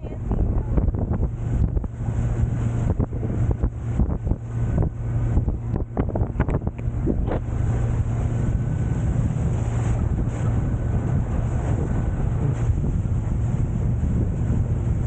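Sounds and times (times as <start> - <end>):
boat motor humming: 0.0 - 15.0
wind buffeting microphone: 0.0 - 15.0.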